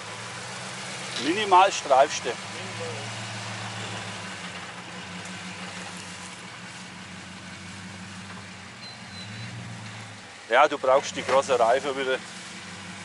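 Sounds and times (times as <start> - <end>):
truck engine running at low revs: 0.0 - 13.0.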